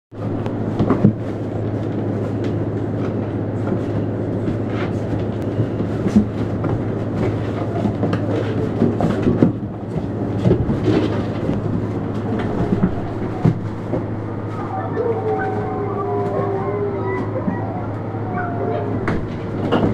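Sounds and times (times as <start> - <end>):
low machine hum: 0.2 - 19.9
puppies scrambling on newspaper: 3.8 - 19.9.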